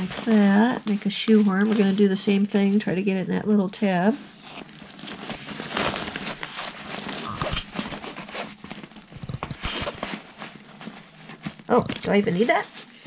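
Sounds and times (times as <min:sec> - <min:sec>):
fabric rustling and scraping: 0:00.0 - 0:13.0.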